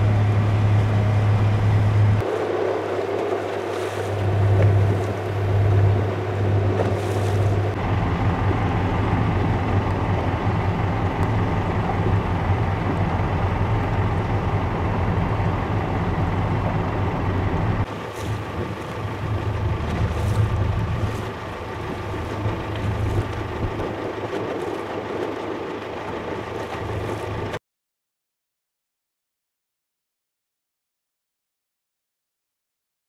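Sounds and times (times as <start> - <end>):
motorboat engine humming: 0.0 - 27.6
water and wind noise: 0.0 - 27.6.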